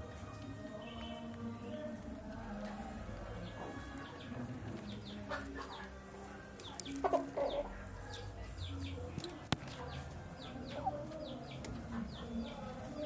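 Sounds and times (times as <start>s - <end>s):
chicks peeping: 0.3s - 13.0s.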